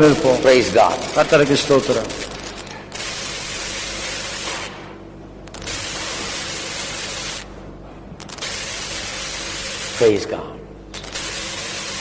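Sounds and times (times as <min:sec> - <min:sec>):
steady static hiss: 0:00.0 - 0:12.0.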